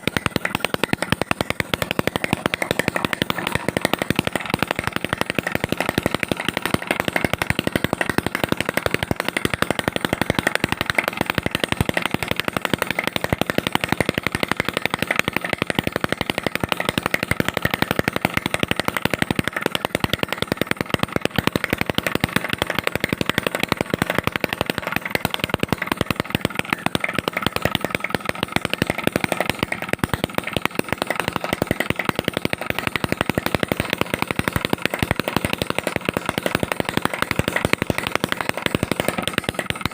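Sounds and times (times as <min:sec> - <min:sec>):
small two-stroke engine popping: 0:00.0 - 0:39.9.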